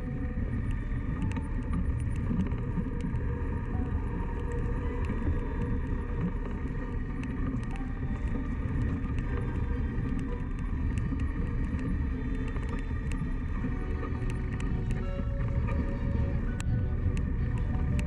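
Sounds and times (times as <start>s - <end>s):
small scattered clicks: 0.0s - 18.0s
wind on microphone: 0.0s - 18.0s.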